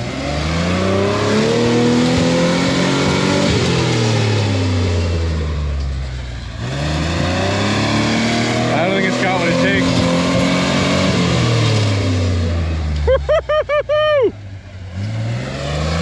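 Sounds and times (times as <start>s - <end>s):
engine revving hard: 0.0s - 5.5s, 6.5s - 16.0s.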